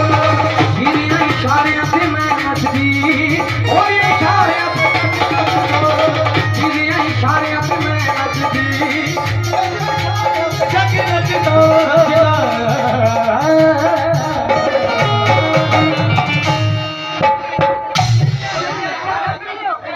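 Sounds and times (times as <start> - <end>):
male singer: 0.0 - 16.8, 18.2 - 19.9
sustained melody line: 0.0 - 17.6
hand drum beat: 0.0 - 19.4.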